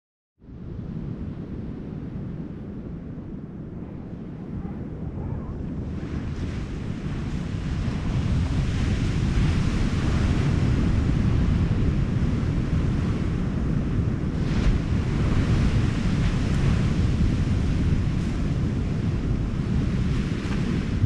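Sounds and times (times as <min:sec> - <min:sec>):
wind buffeting microphone: 0:00.4 - 0:21.0.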